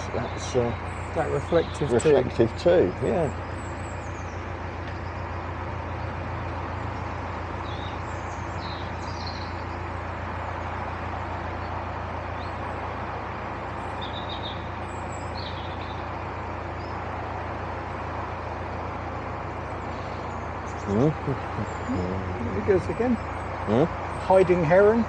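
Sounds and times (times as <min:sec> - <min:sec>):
birds chirping: 0:00.0 - 0:25.0
boat engine humming: 0:00.0 - 0:25.0.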